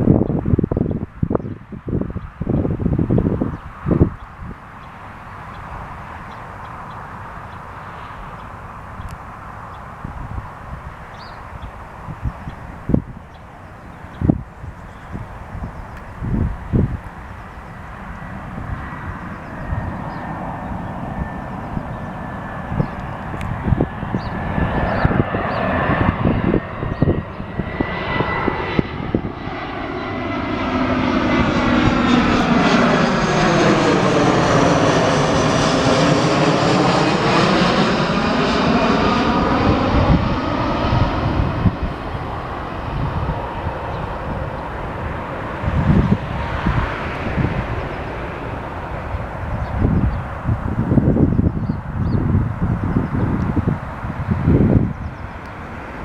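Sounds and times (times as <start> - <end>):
wind thumping on microphone: 0.0 - 4.6, 9.9 - 13.4, 14.1 - 17.3, 18.0 - 37.3, 39.0 - 56.0
jet airliner passing overhead: 0.0 - 56.0.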